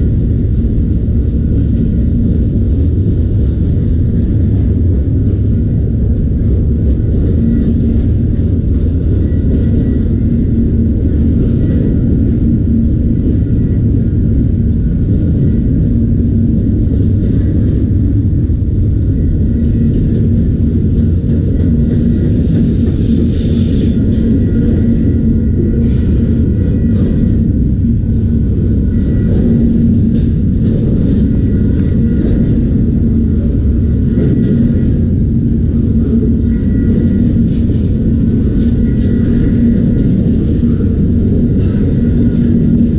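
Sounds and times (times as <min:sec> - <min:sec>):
freight train wheels rumbling on rail: 0:00.0 - 0:42.9.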